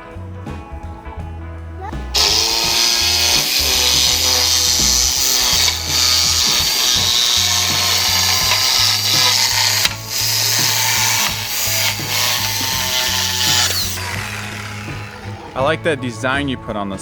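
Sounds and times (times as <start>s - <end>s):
background music with bass line: 0.0s - 17.0s
power tool on wood: 2.1s - 16.1s.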